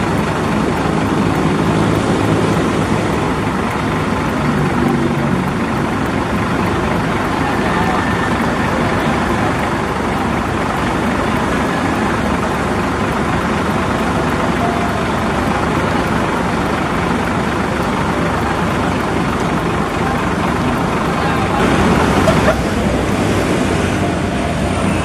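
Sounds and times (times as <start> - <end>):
diesel bus engines idling: 0.0 - 25.0.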